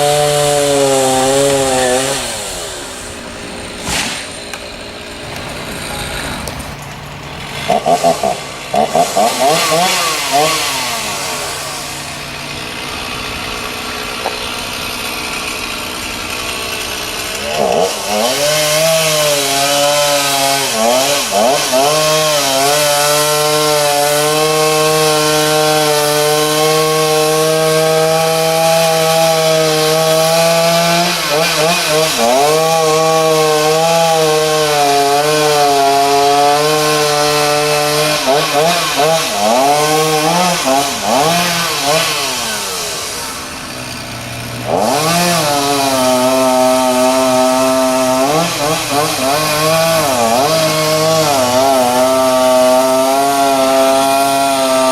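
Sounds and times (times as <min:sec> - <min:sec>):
chainsaw revving and cutting wood: 0:00.0 - 0:54.9.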